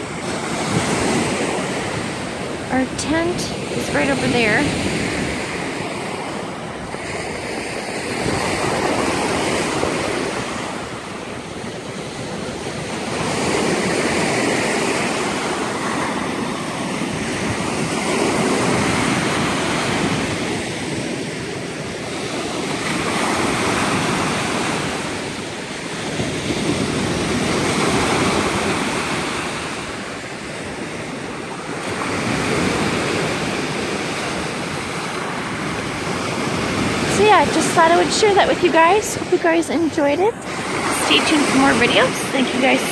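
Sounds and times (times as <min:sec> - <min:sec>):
surf breaking on rocky shore: 0:00.0 - 0:42.9.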